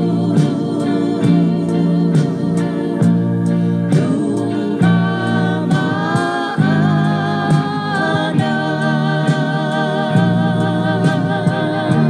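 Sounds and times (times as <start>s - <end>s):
gospel song sung with band: 0.0s - 12.0s
steady bass line: 0.0s - 12.0s.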